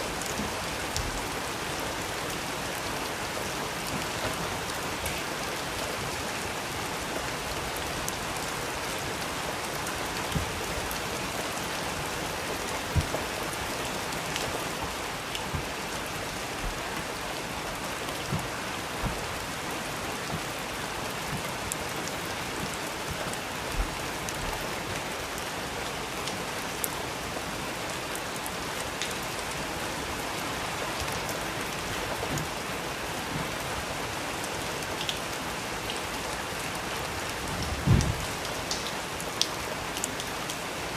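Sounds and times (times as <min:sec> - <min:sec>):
rain drops tapping: 0:00.0 - 0:40.9
steady rain hiss: 0:00.0 - 0:40.9.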